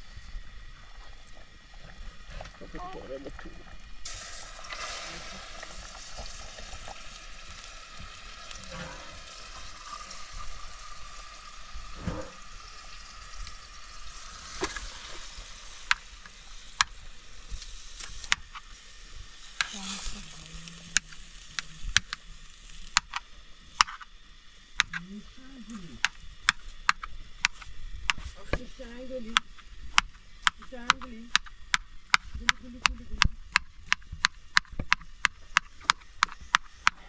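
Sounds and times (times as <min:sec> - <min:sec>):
food sizzling in a pan: 0:00.0 - 0:33.5.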